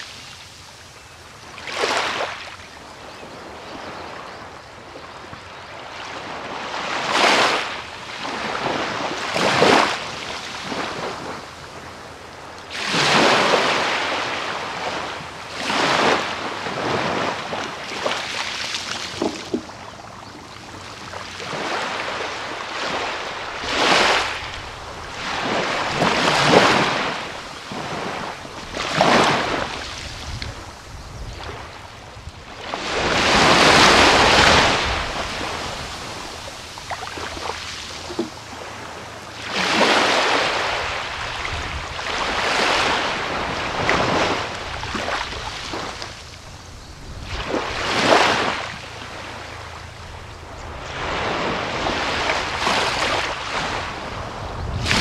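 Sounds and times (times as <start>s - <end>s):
small waves breaking on beach: 0.0s - 55.0s.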